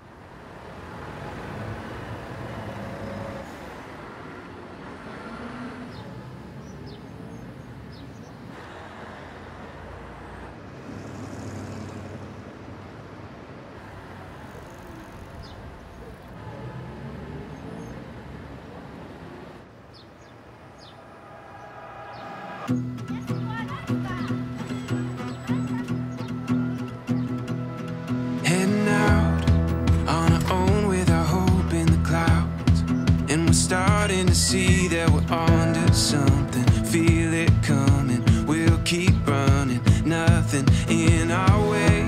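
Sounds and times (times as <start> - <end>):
traffic noise: 0.0 - 42.0
vehicles passing: 0.0 - 42.0.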